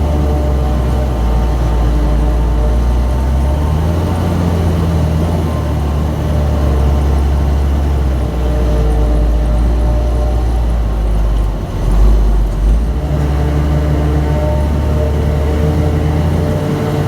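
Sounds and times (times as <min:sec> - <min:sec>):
diesel engines droning under load: 0:00.0 - 0:17.0.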